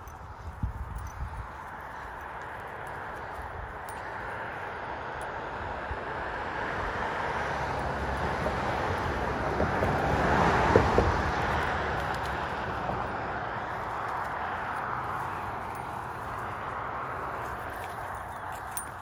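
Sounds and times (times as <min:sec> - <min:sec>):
vehicle passing: 0:00.0 - 0:19.0.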